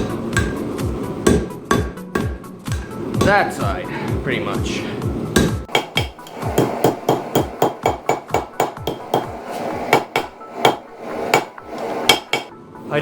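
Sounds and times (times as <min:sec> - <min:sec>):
hammer striking metal: 0:00.0 - 0:03.7, 0:05.3 - 0:12.5.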